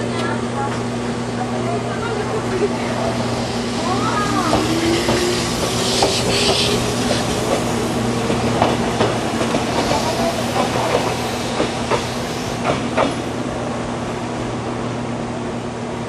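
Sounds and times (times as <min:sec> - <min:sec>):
electric train running past: 0:00.2 - 0:16.0.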